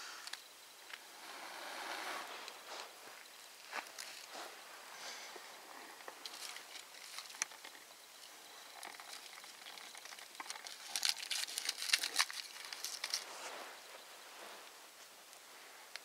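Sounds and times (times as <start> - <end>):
kindling crackling and rustling: 0.2 - 16.0.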